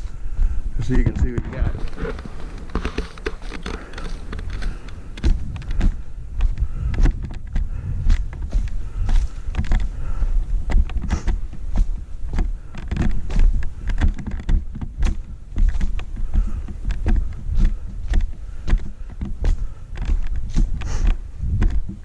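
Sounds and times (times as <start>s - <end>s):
footsteps crunching on rocky trail: 0.0s - 22.0s
low microphone rumble: 0.0s - 22.0s.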